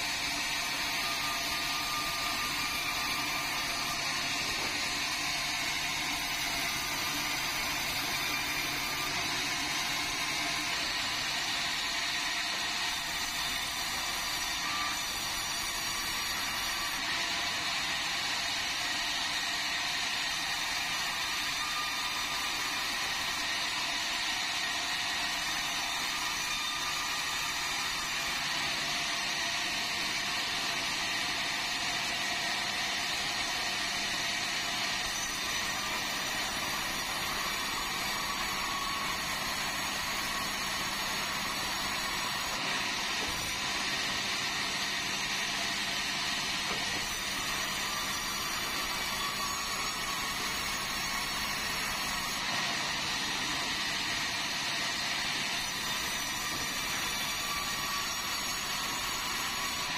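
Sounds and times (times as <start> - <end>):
band saw sawing timber: 0.0 - 59.9.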